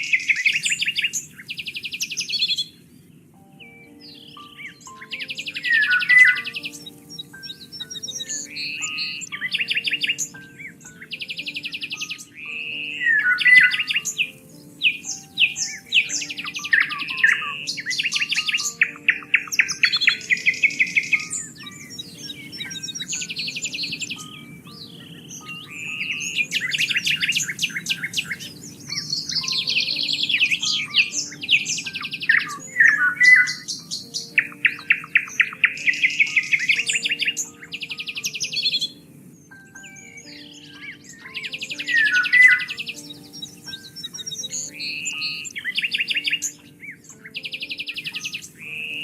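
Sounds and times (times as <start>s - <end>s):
songbirds singing trilled notes: 0.0s - 49.0s.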